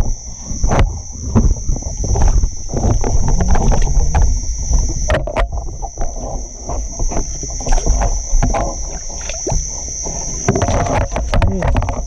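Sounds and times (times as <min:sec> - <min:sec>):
insect call: 0:00.0 - 0:12.0
water sloshing: 0:00.0 - 0:12.0.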